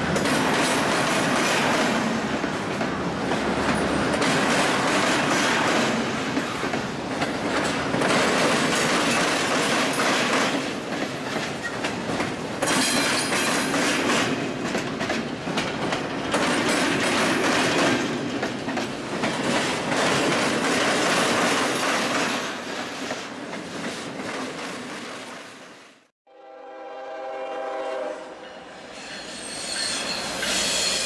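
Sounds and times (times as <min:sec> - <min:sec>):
freight train wheels rumbling: 0:00.0 - 0:25.8.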